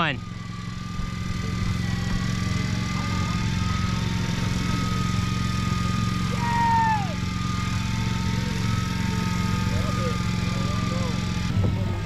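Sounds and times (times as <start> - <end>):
diesel boat engine running: 0.0 - 12.0
electric reel motor whine: 0.0 - 12.0
loud whine dropping in pitch: 0.0 - 12.0.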